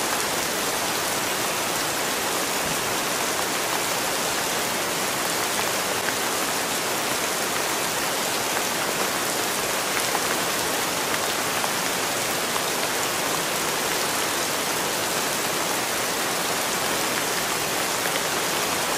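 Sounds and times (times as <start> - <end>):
rain on wet concrete: 0.0 - 18.9.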